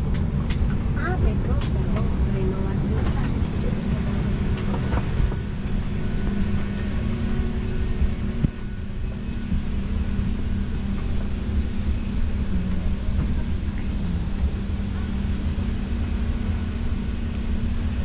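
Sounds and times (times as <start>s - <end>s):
ventilation hum and rumble: 0.0s - 18.0s.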